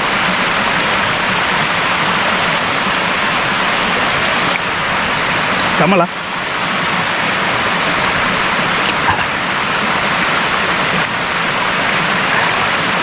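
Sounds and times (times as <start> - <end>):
waterfall rushing over rock: 0.0 - 13.0.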